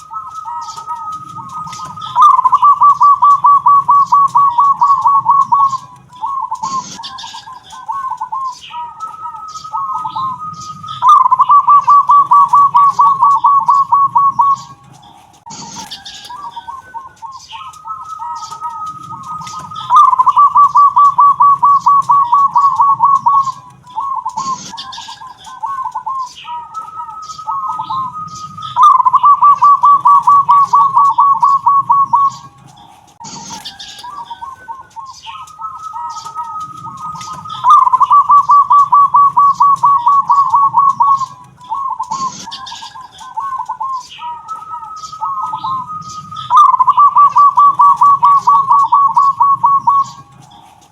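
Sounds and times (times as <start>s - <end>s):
dove cooing song: 0.0s - 50.9s.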